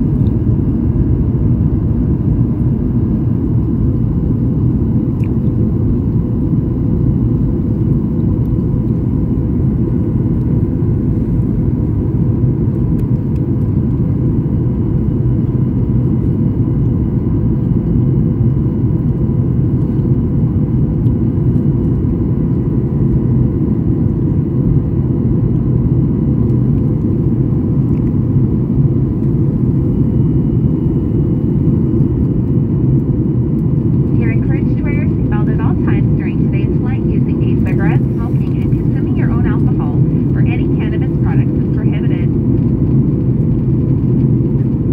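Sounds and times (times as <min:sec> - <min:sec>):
faint constant whine: 0:00.0 - 0:44.9
jet engines and rushing air: 0:00.0 - 0:44.9.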